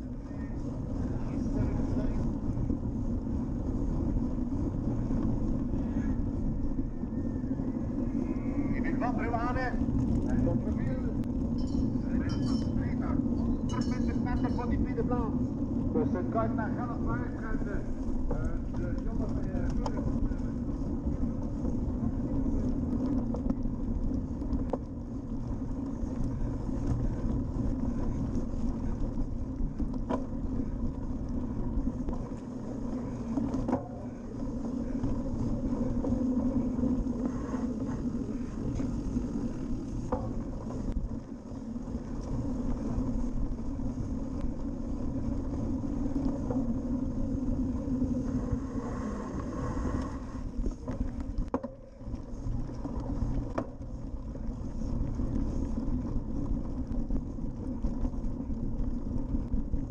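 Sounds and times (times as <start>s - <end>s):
bike tyres rumbling and rattling: 0.0s - 59.9s.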